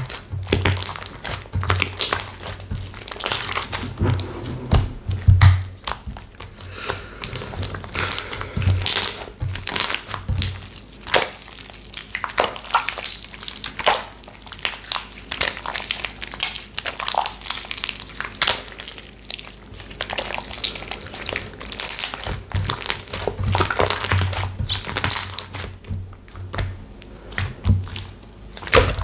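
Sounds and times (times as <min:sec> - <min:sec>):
hands squeezing slime: 0:00.0 - 0:04.2, 0:04.9 - 0:29.0.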